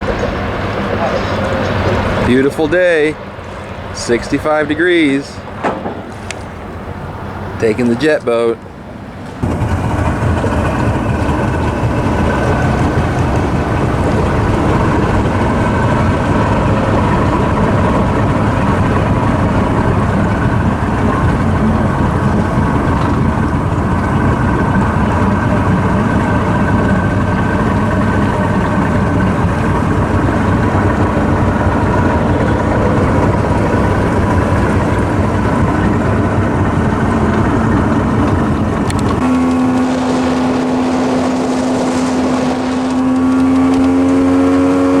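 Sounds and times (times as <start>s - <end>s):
jet boat engine running: 0.0s - 45.0s.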